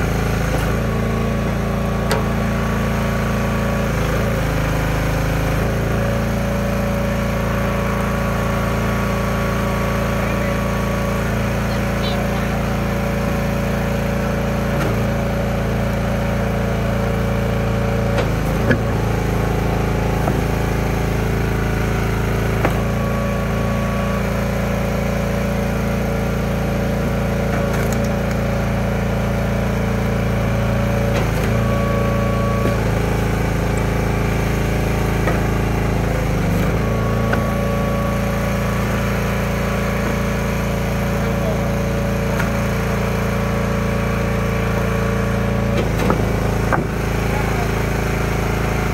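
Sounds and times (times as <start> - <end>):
small gas engine running: 0.0 - 48.9.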